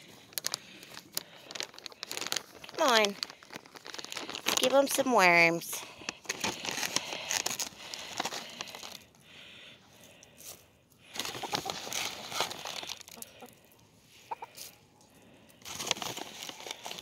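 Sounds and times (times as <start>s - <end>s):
crinkly rustling: 0.0s - 9.4s, 10.0s - 13.8s, 14.5s - 17.0s.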